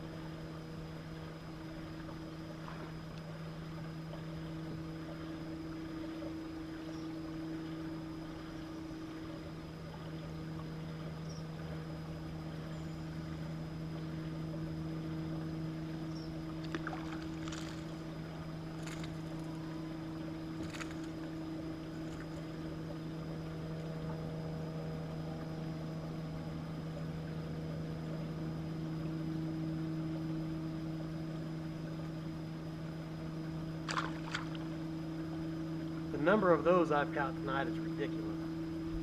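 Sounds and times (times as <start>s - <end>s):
electric trolling motor humming: 0.0s - 39.0s.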